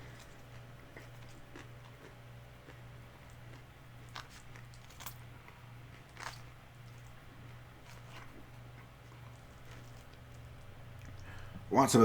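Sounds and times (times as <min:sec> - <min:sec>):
crunchy chewing and biting: 0:00.0 - 0:11.7.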